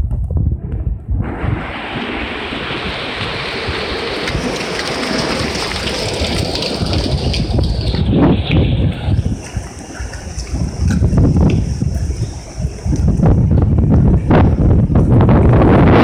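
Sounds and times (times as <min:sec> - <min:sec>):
wind buffeting microphone: 0:00.0 - 0:16.0
heavy rain hissing: 0:01.2 - 0:14.7.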